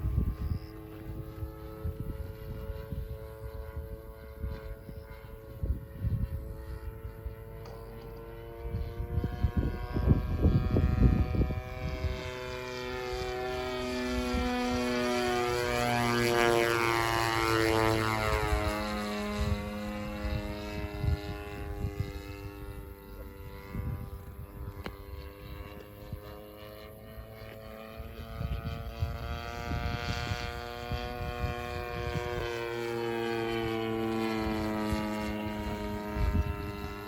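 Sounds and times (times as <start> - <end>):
model airplane engine: 0.0 - 37.0
wind buffeting microphone: 0.0 - 37.0.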